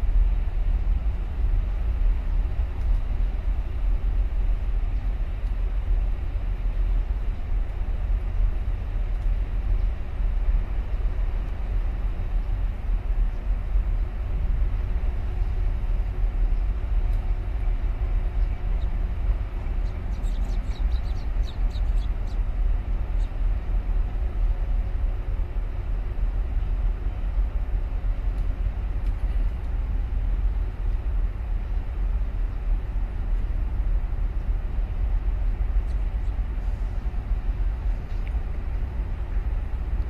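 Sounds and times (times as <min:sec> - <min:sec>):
faint hum: 0:00.0 - 0:40.0
ship deep rumble: 0:00.0 - 0:40.0.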